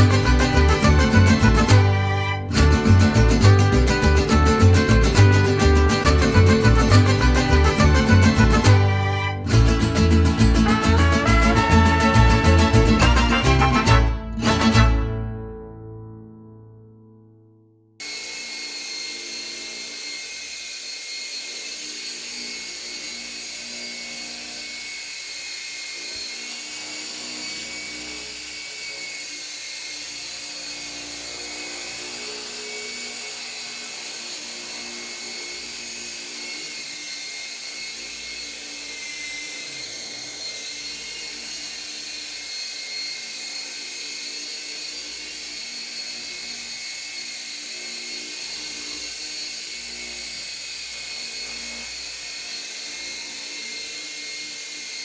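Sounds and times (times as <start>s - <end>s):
model helicopter high whine: 5.9s - 13.8s, 18.0s - 55.0s.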